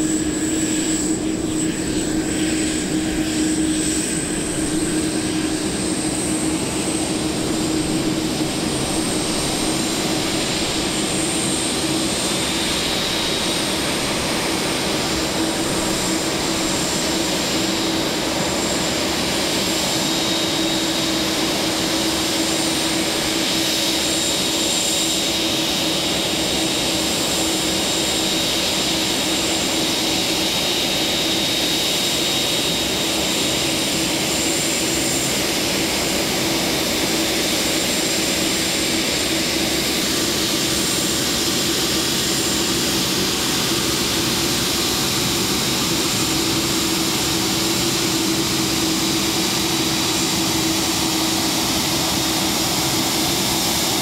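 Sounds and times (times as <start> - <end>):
high jet whine: 0.0 - 54.0
jet engines running: 0.0 - 54.0.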